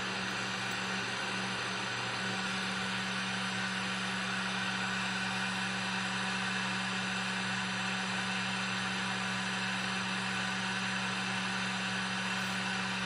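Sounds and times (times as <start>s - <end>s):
heat gun fan whirring: 0.0s - 13.0s.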